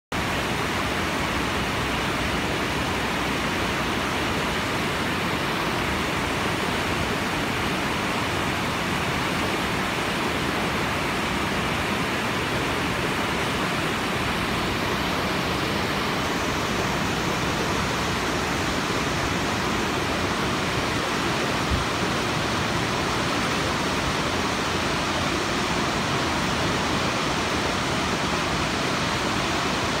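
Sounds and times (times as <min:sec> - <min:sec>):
water rushing over boulders: 0:00.1 - 0:30.0.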